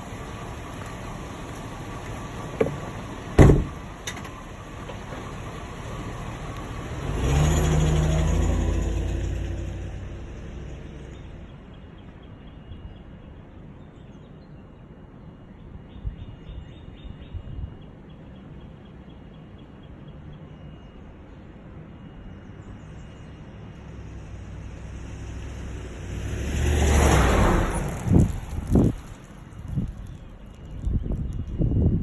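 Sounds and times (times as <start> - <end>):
low engine-like hum: 0.0 - 26.3.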